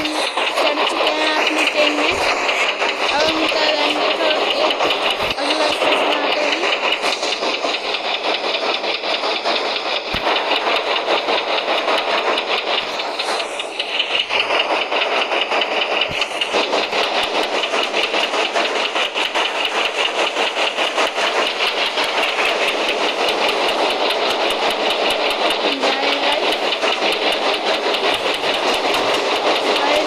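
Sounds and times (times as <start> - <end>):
train rumble: 0.0 - 30.0
train wheels rattling: 0.0 - 30.0.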